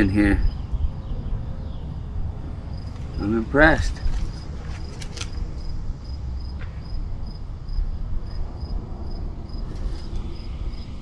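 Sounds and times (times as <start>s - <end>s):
cricket chirping: 0.0s - 11.0s
low rumbling noise: 0.0s - 11.0s.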